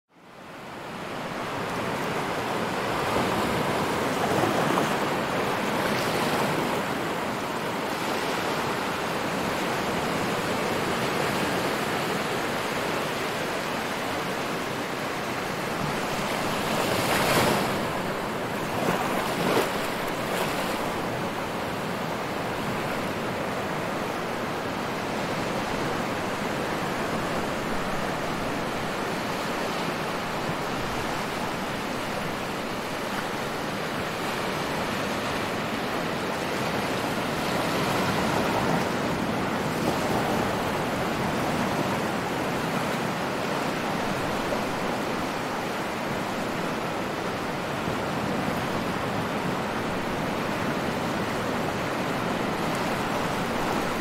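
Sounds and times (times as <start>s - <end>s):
ocean waves washing on shore: 0.1s - 54.0s.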